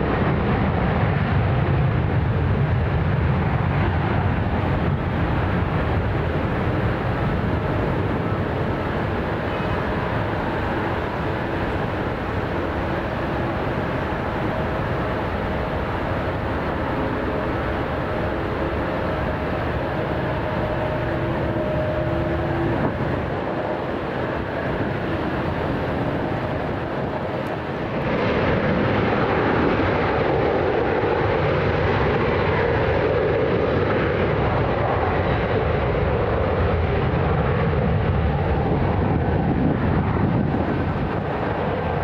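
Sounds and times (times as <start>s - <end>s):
jet engine roar: 0.0s - 42.0s.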